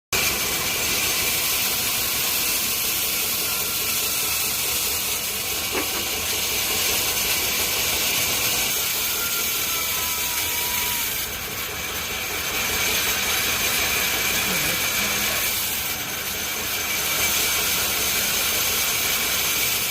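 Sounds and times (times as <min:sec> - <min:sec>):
sawmill saw cutting wood: 0:00.1 - 0:19.9.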